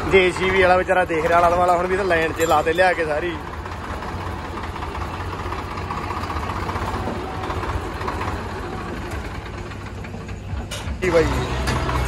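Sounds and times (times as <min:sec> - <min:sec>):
diesel tractor engines under load: 0:00.0 - 0:12.0.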